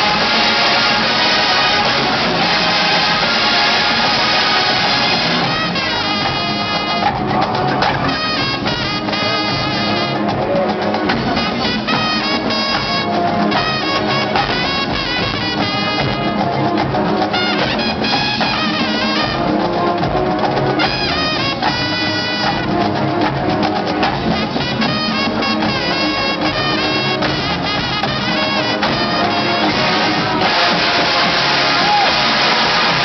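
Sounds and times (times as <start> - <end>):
brass section playing: 0.0 - 33.0
drumline percussion: 0.0 - 33.0.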